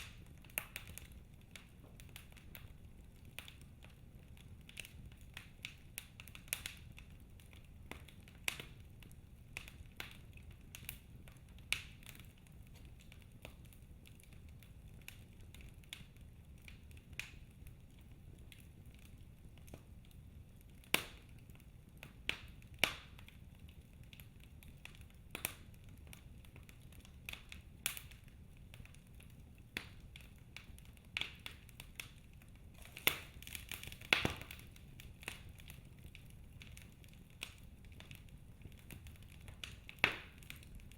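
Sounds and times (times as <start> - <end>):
low fire rumble: 0.0 - 40.9
wood fire crackling and popping: 0.0 - 40.9.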